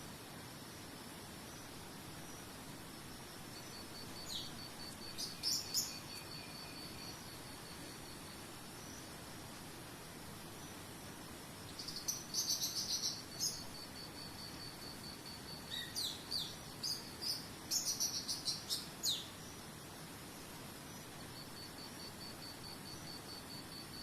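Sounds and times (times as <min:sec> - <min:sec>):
faint hiss: 0:00.0 - 0:24.0
cricket trilling: 0:00.6 - 0:09.5, 0:10.5 - 0:24.0
songbird singing: 0:00.9 - 0:24.0.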